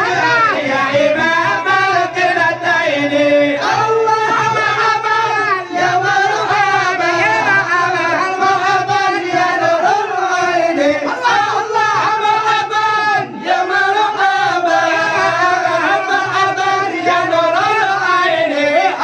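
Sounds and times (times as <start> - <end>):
men singing through pa: 0.0 - 19.0.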